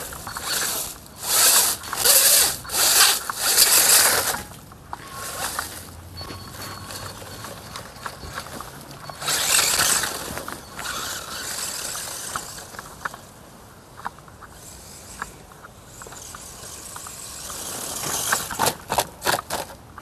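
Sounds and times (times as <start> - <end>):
rc truck driving over leaves: 0.0 - 20.0.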